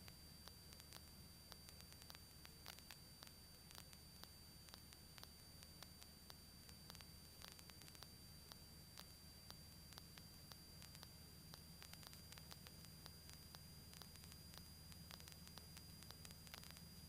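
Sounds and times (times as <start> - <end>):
crackling clicks: 0.0 - 17.0
faint static hiss: 0.0 - 17.0.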